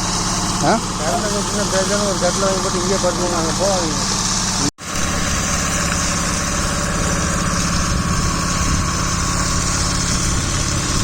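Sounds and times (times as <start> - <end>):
engine idling: 0.0 - 11.0
hiss: 0.0 - 11.0.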